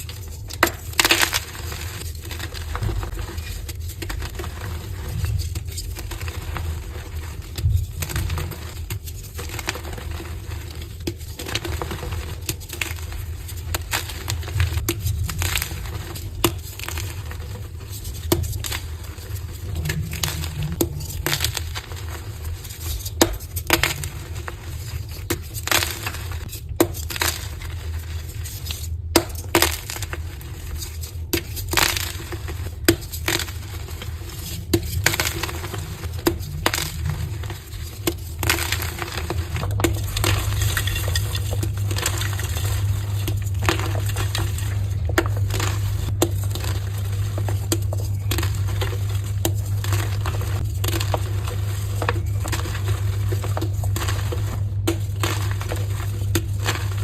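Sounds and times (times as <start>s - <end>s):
chalk crunching: 0.0s - 57.0s
steady low hum: 0.0s - 57.0s.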